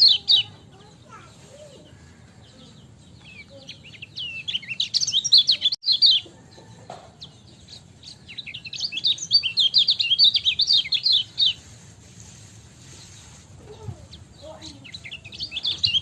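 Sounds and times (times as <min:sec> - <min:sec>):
bird chattering high chirps: 0:00.0 - 0:06.3, 0:07.2 - 0:11.8, 0:13.0 - 0:16.0.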